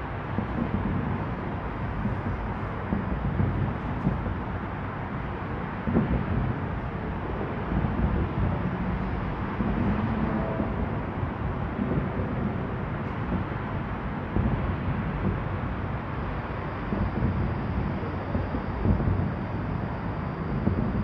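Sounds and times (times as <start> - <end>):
distant fireworks rumble: 0.0 - 21.0.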